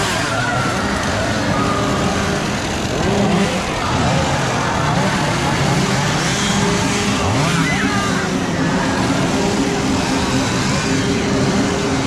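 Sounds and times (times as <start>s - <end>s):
dense crowd chatter: 0.0s - 12.0s.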